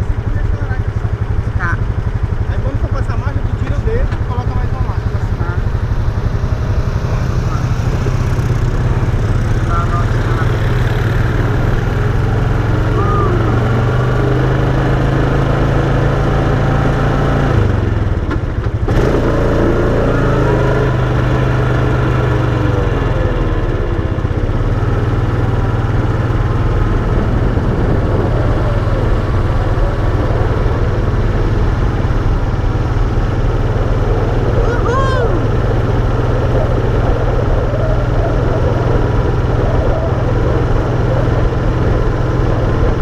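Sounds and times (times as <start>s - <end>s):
quad bike engine running: 0.0s - 43.0s.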